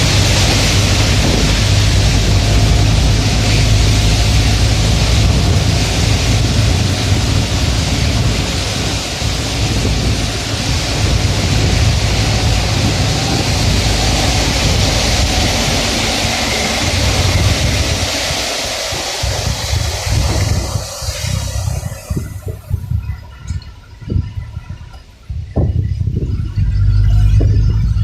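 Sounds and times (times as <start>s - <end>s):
rain hiss: 0.0s - 27.5s
vehicle engine drone: 0.0s - 28.0s
wet tyres on road: 0.0s - 28.0s.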